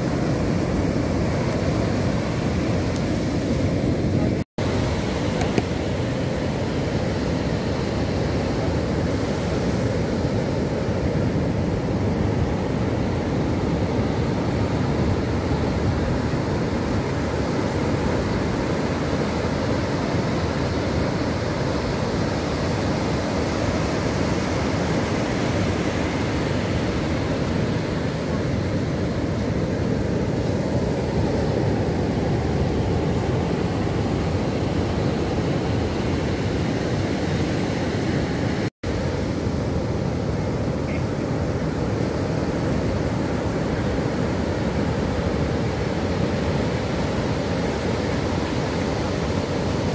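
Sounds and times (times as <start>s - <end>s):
surf breaking on beach: 0.0s - 49.9s.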